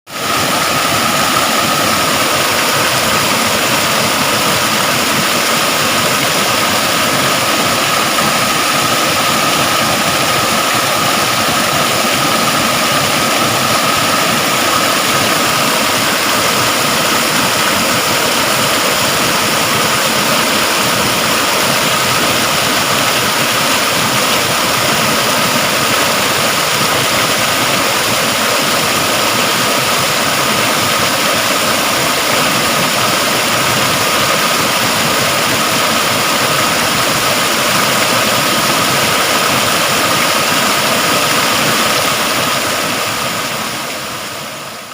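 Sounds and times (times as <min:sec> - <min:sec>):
rush of falling water: 0:00.1 - 0:44.9.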